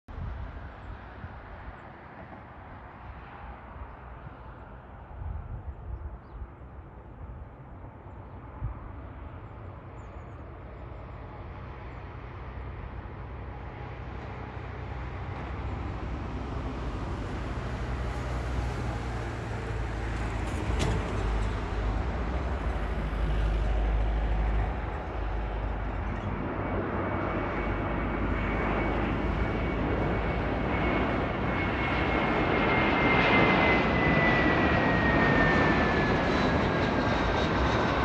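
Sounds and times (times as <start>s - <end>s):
jet engine rush: 0.2s - 38.0s.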